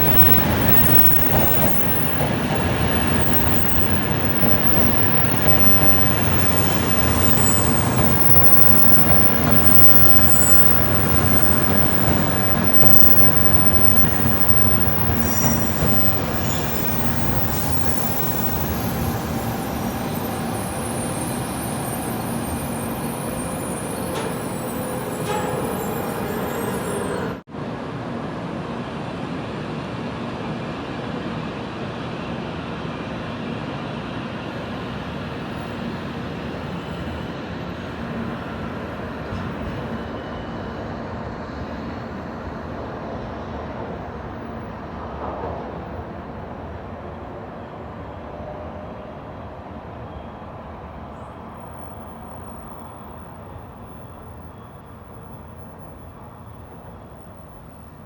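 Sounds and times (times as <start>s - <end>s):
train rushing through station: 0.0s - 58.0s.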